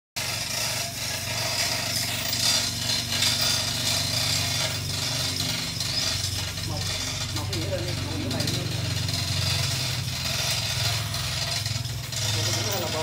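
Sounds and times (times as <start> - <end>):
harsh rasping noise: 0.2 - 13.0
motor running steadily: 0.2 - 13.0.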